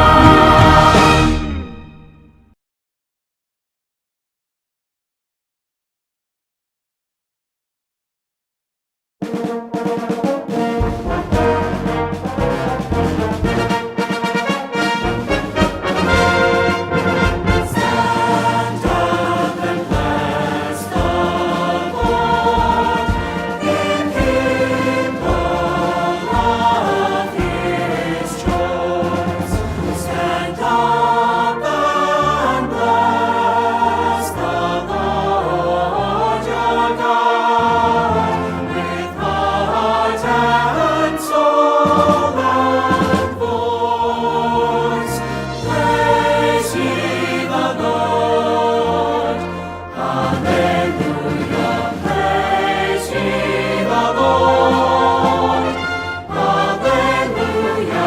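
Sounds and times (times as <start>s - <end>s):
choir singing a hymn: 0.0s - 1.8s, 10.7s - 58.0s
instrumental accompaniment: 0.0s - 2.6s, 9.2s - 58.0s.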